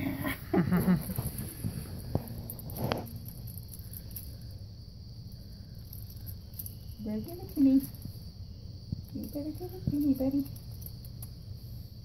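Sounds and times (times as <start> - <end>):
faint clicks and rustles: 0.6 - 4.6, 5.2 - 12.0.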